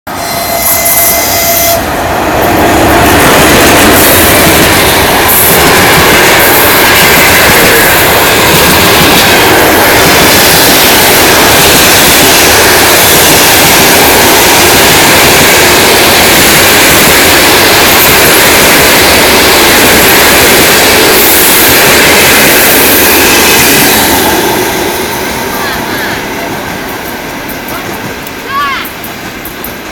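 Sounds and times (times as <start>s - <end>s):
train passing at speed: 0.1s - 29.9s.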